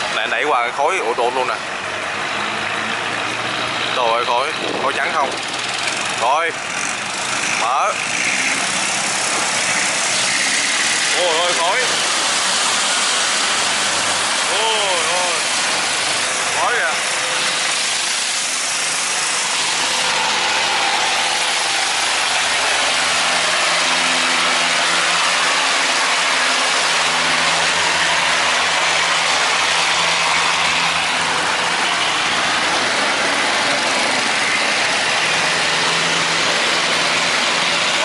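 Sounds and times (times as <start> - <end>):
boat engines running: 0.0 - 38.0.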